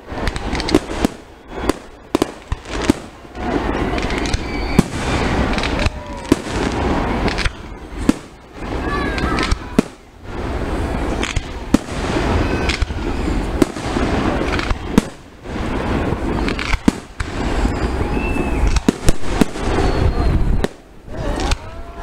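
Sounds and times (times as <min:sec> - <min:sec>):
fireworks rumble and crackle: 0:00.0 - 0:22.0
fireworks shells bursting: 0:00.2 - 0:21.6.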